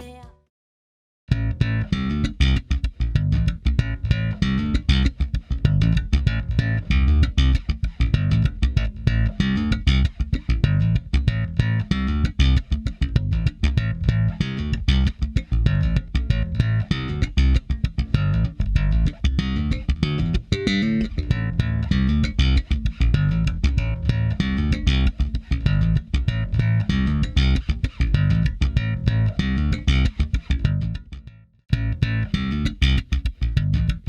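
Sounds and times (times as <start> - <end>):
electric bass guitar fast line: 1.3 - 34.0.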